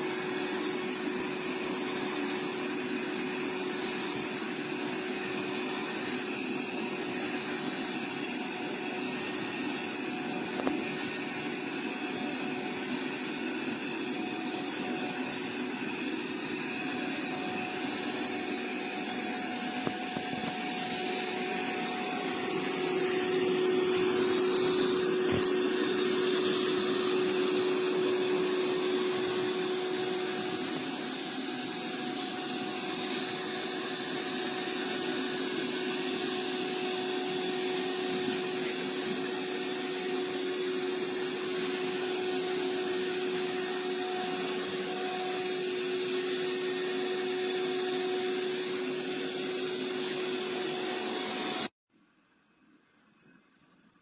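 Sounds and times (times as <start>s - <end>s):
robot vacuum motor hum: 0.0s - 51.7s.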